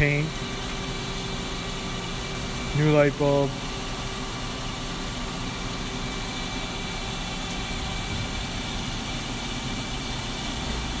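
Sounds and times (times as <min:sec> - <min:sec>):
lathe running with drone and hiss: 0:00.0 - 0:11.0.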